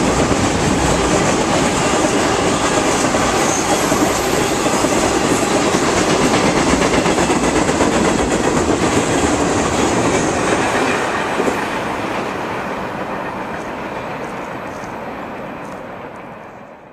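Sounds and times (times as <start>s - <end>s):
freight train wheel clacks: 0.0s - 16.6s.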